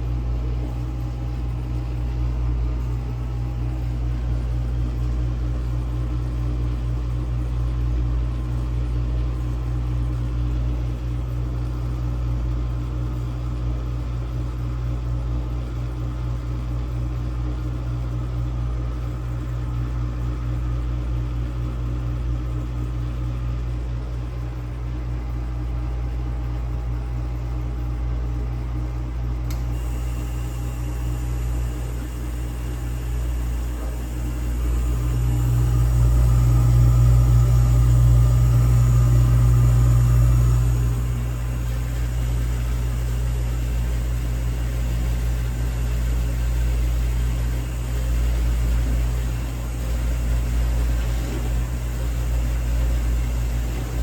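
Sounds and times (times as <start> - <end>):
dishwasher pump motor humming: 0.0 - 54.0.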